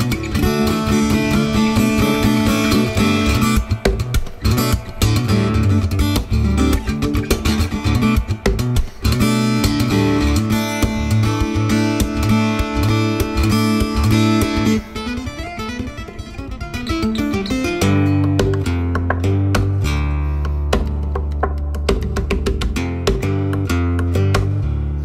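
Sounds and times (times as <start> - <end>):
acoustic guitar music: 0.0 - 25.0.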